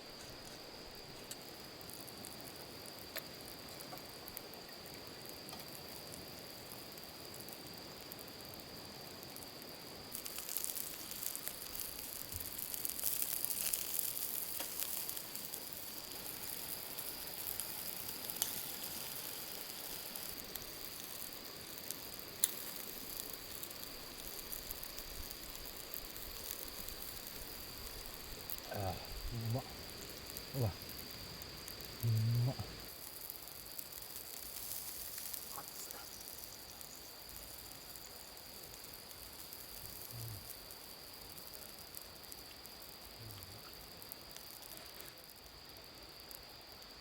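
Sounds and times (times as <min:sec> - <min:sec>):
food sizzling: 0:00.0 - 0:47.0
night insects trilling: 0:00.0 - 0:47.0.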